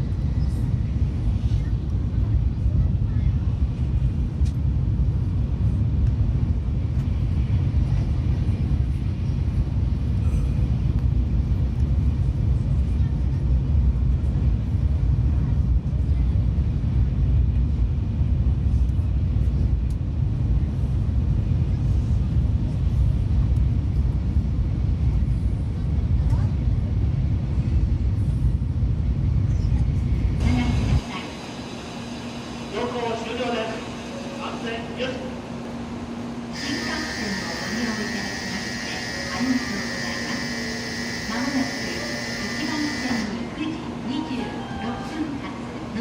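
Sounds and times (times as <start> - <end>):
train rumbling at speed: 0.0 - 46.0.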